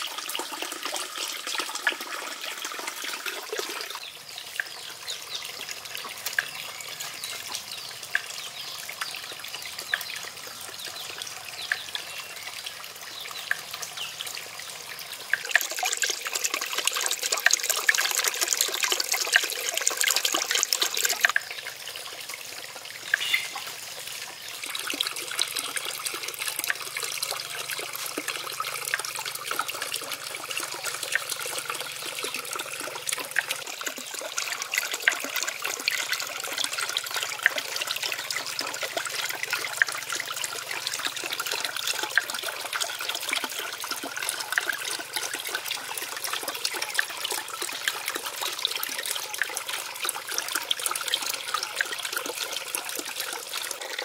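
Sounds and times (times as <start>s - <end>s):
small drip splashes: 0.0s - 54.0s
water trickling into pond: 0.0s - 54.0s.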